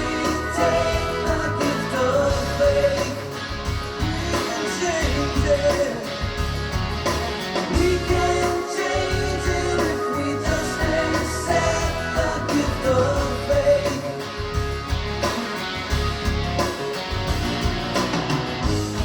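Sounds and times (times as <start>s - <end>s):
rock music with vocals: 0.0s - 19.0s.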